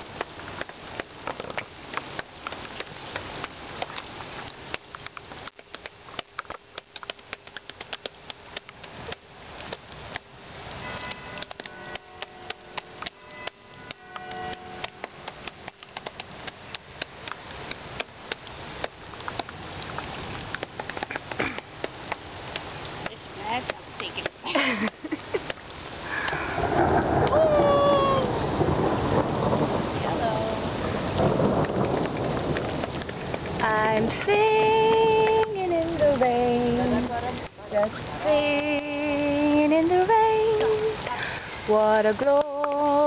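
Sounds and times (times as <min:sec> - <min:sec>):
steady rain hiss: 0:00.0 - 0:43.0.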